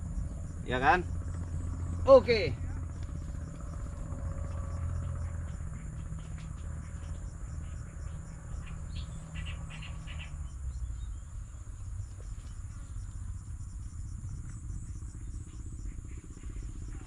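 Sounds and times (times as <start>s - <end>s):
insects trilling: 0.0s - 17.0s
low rumble: 0.0s - 17.0s.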